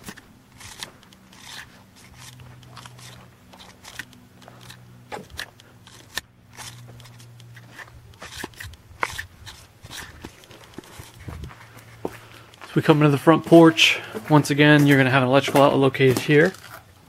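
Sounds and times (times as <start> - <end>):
footsteps crunching on gravel: 0.0 - 17.0.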